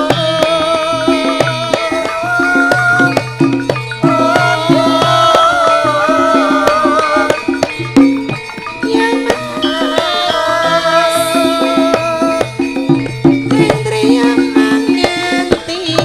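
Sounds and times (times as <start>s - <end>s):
gamelan music: 0.0s - 16.0s
hand drum strokes: 0.0s - 16.0s.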